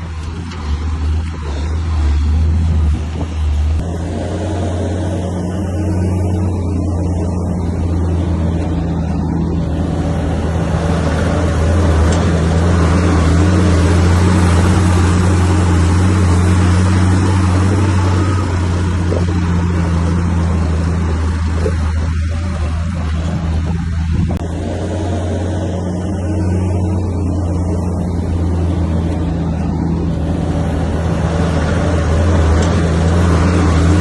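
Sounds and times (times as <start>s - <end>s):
bulldozer diesel engine: 0.0s - 34.0s.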